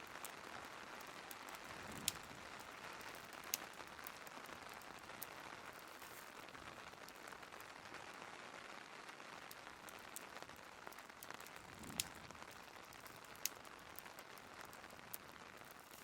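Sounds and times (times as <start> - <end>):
fireplace crackling: 0.0 - 16.0
rain hiss: 0.0 - 16.0.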